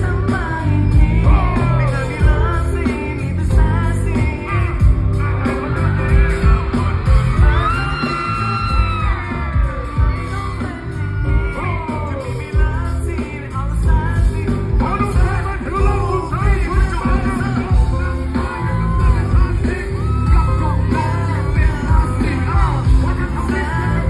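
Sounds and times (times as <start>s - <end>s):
amplified pop song: 0.0s - 24.0s
audience yelling and whooping: 1.2s - 24.0s.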